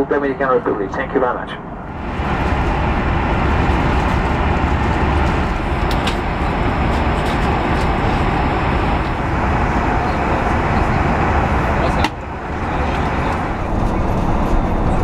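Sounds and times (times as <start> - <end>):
airliner cabin noise: 0.0 - 15.0.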